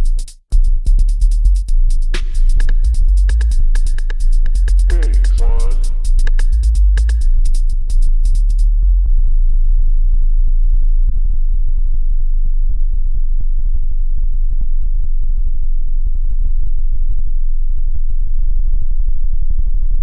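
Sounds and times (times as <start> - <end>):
deep synthesizer bass drone: 0.0 - 20.0.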